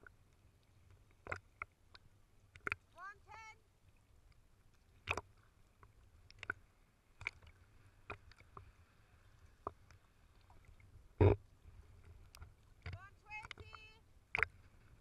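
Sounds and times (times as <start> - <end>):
small waves lapping: 0.0 - 15.0
water splashes: 0.0 - 15.0.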